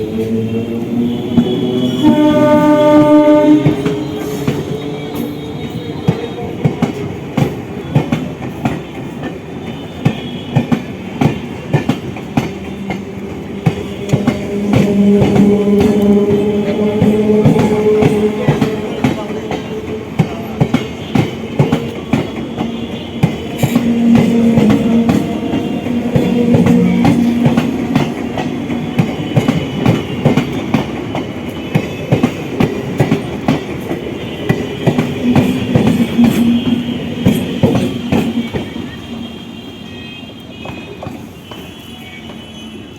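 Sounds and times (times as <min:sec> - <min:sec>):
train wheels clattering: 0:00.1 - 0:39.3.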